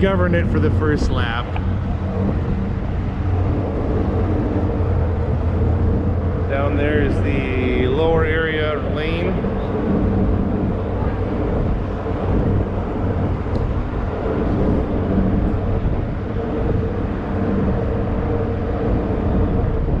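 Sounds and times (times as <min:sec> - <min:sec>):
electric go-karts humming: 0:00.0 - 0:20.0
wind on microphone: 0:00.0 - 0:20.0.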